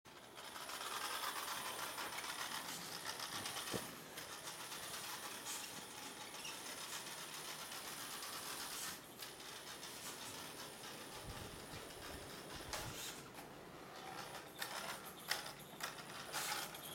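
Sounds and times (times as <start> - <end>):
toy car motor whirring: 0.1 - 16.9.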